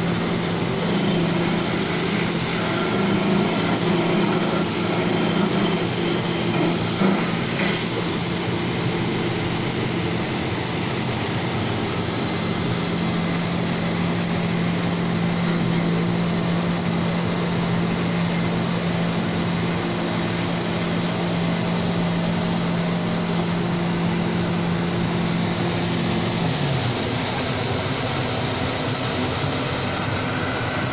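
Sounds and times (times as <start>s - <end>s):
lathe motor hum: 0.0s - 30.9s
machine working noise: 0.0s - 30.9s.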